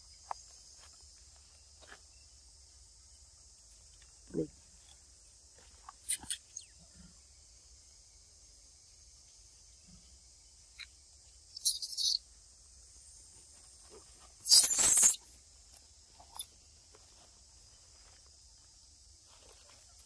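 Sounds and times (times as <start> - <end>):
insect chorus buzzing: 0.0 - 20.0.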